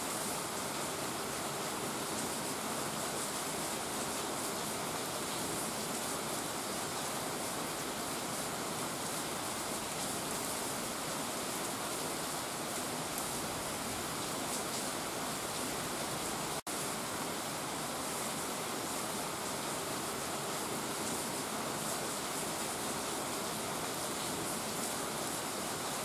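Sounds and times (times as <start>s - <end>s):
patter of raindrops: 0.0s - 26.0s
steady rain hissing: 0.0s - 26.0s.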